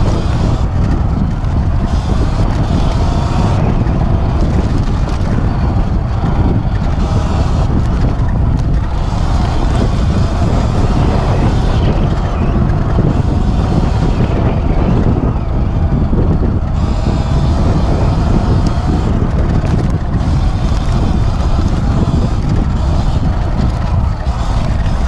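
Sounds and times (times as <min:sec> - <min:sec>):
wind and tyre noise: 0:00.0 - 0:25.0.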